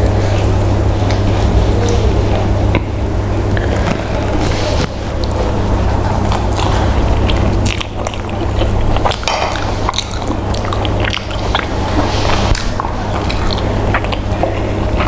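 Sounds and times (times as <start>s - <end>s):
chewing and biting food: 0.0s - 15.0s
low steady hum: 0.0s - 15.0s.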